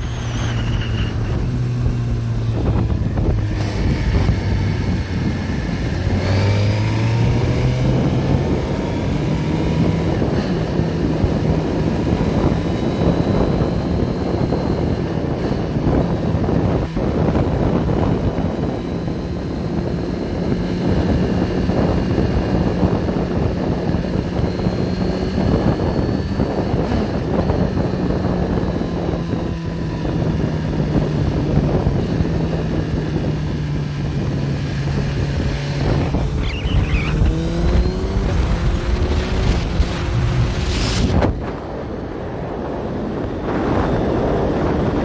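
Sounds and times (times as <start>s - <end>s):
vehicle engine running: 0.0s - 45.0s
wind noise on microphone: 0.0s - 45.0s.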